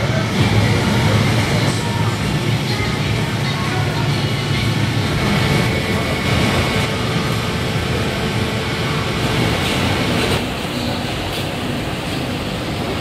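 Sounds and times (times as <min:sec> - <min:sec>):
busy food court din: 0:00.0 - 0:13.0.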